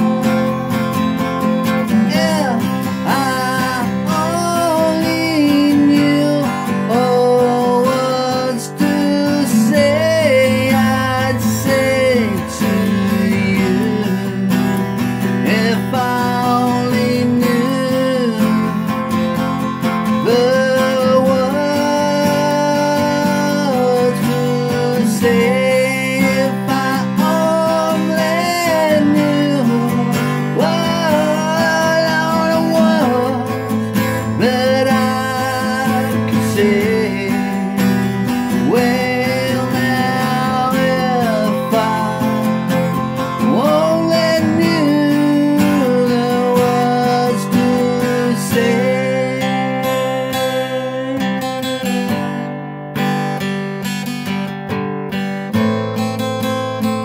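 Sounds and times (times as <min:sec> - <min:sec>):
man singing: 0:00.0 - 0:54.0
acoustic guitar strumming: 0:00.0 - 0:57.0.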